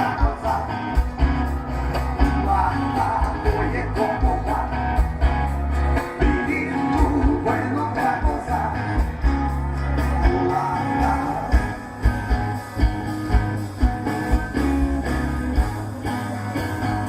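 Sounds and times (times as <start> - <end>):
bass guitar: 0.0 - 17.0
drum kit beat: 0.0 - 17.0
electric guitar: 0.0 - 17.0.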